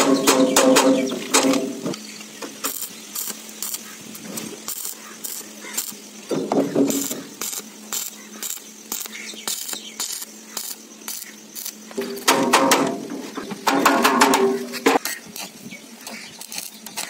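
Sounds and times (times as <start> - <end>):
welding arc crackles: 0.0 - 17.0.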